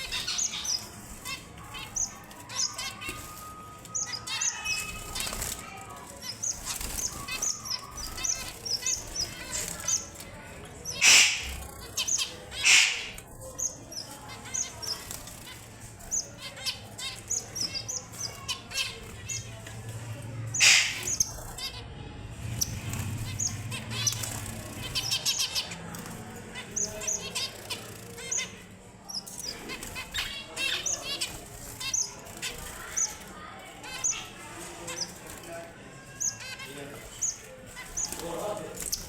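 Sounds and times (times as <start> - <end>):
finches chirping and twittering: 0.0 - 39.0.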